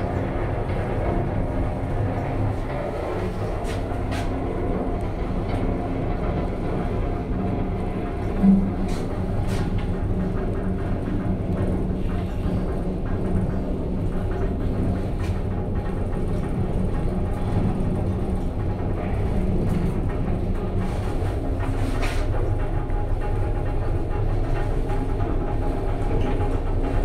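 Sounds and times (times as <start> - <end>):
elevator hum and rumble: 0.0 - 27.0.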